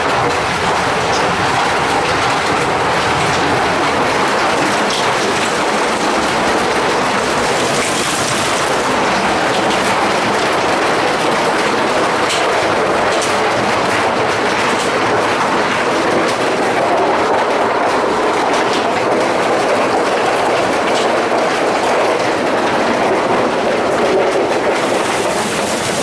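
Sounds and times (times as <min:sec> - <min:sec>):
hail pelting patio and house: 0:00.0 - 0:26.0.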